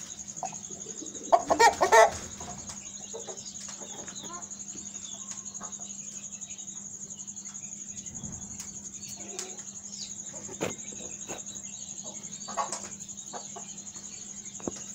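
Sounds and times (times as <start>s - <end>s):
high cricket trill: 0.0s - 14.9s
chickens clucking softly: 0.1s - 6.0s, 8.6s - 14.9s.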